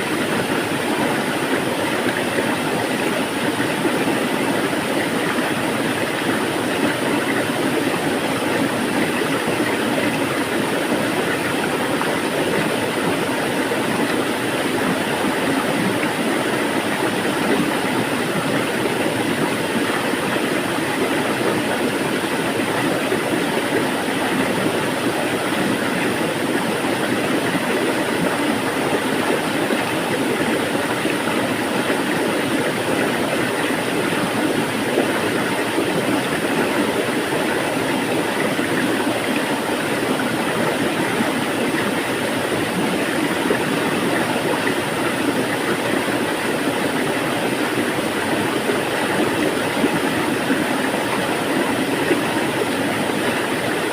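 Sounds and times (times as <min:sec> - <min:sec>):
water rushing: 0:00.0 - 0:53.9.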